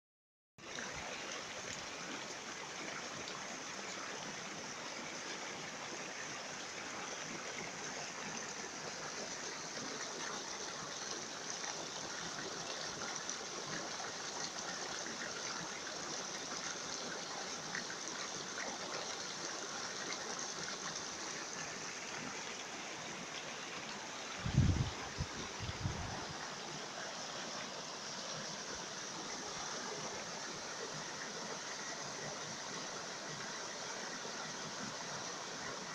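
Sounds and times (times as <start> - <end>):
river flowing over rocks: 0.8 - 35.9.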